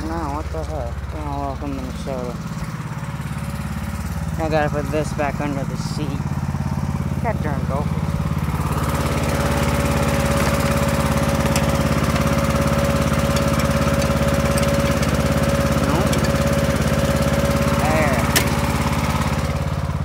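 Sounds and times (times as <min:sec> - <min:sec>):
riding lawn mower engine: 0:00.0 - 0:20.0.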